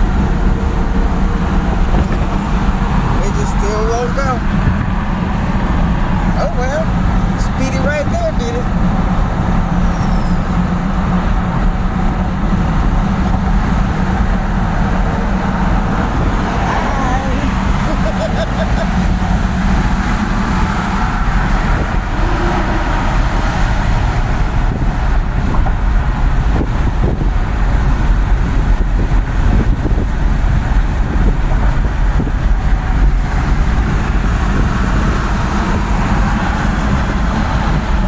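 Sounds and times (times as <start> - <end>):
vehicle rumbling along streets: 0.0 - 38.0.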